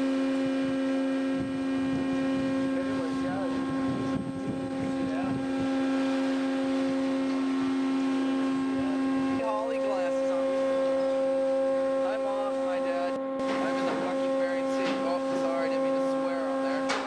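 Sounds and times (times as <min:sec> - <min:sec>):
boat machinery droning hum: 0:00.0 - 0:17.0.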